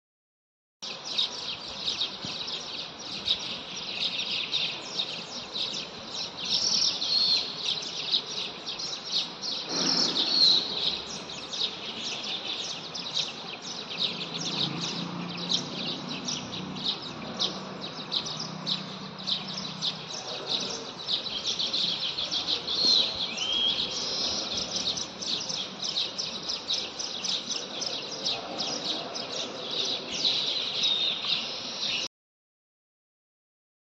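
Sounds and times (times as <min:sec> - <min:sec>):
birds chirping rapidly: 0:00.8 - 0:32.1.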